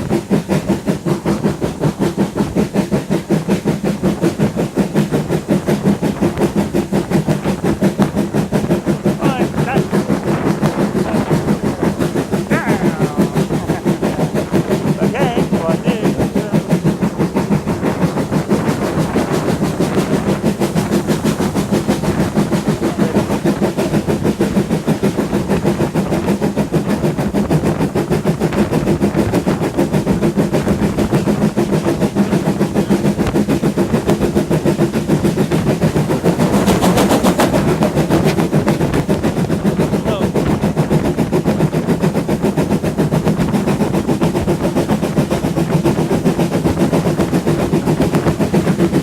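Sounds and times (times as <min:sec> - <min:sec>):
steam hiss: 0:00.0 - 0:49.0
steam train rhythmic beat: 0:00.0 - 0:49.0.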